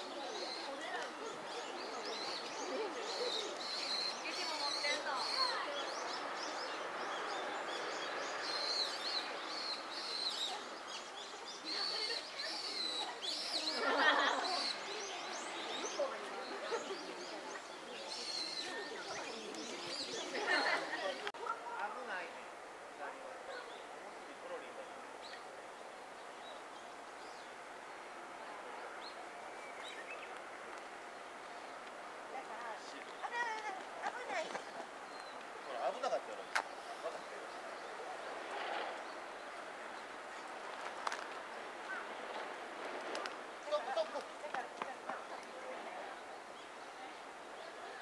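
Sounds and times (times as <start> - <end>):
songbirds chirping and calling: 0.0 - 21.4, 23.3 - 42.6, 43.4 - 48.0
steady low hiss: 0.0 - 48.0.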